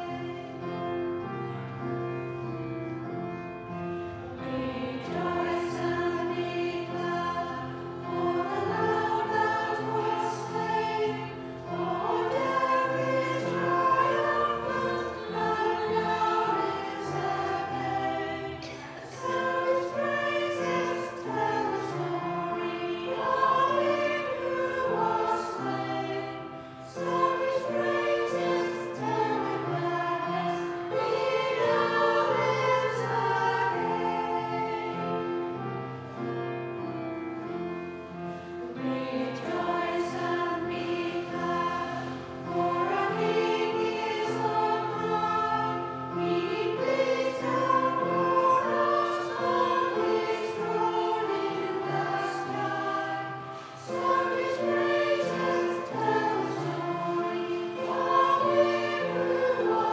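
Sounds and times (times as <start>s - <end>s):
choir singing a hymn: 0.0s - 59.9s
piano accompaniment: 0.0s - 59.9s.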